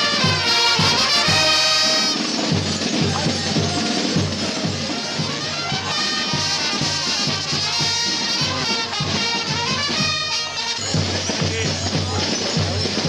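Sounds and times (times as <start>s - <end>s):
brass band playing: 0.0s - 13.0s
steady drum beat: 0.0s - 13.0s.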